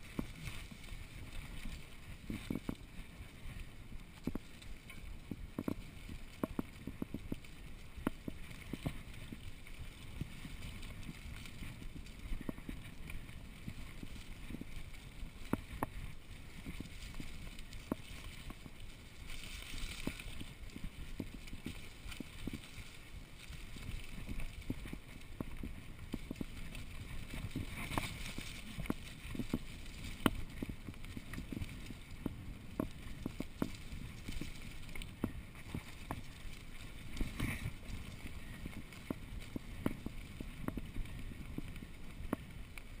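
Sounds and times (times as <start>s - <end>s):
bike rattling over bumps: 0.0s - 43.0s
bike tyres rumbling on dirt: 0.0s - 43.0s.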